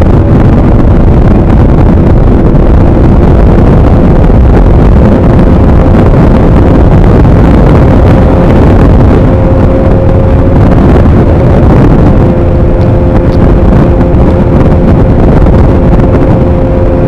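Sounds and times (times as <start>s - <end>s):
motorcycle engine cruising: 0.0s - 17.0s
wind buffeting on microphone: 0.0s - 17.0s.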